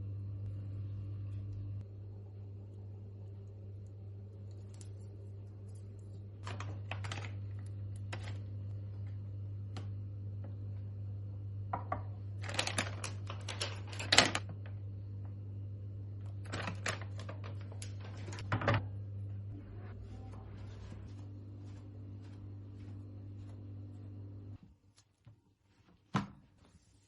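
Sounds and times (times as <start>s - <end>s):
steady low hum: 0.0s - 24.6s.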